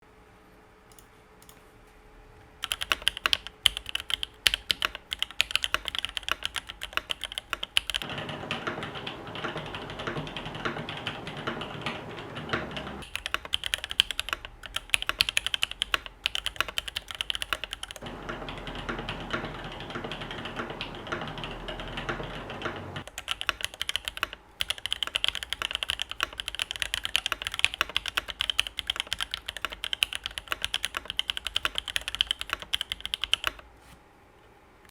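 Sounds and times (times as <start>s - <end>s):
mechanical keyboard typing: 2.6s - 33.6s.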